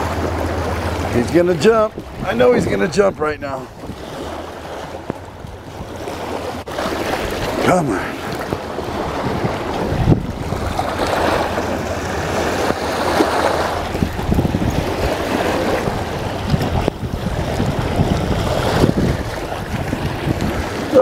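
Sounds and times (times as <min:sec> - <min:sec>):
water washing against rocks: 0:00.0 - 0:21.0
wind buffeting microphone: 0:00.0 - 0:21.0.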